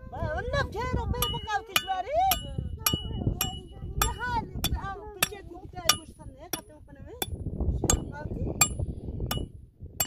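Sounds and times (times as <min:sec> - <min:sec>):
hammer striking metal: 0:01.2 - 0:09.5.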